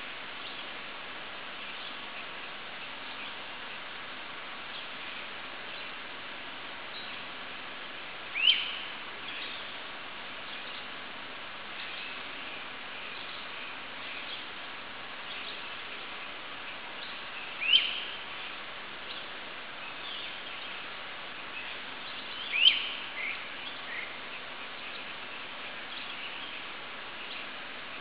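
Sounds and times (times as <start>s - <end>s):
woodland ambience hiss: 0.0s - 28.0s.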